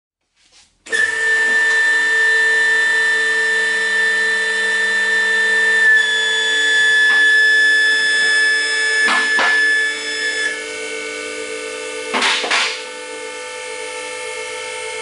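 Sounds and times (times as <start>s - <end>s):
hydraulic pump motor whine: 0.8s - 15.0s.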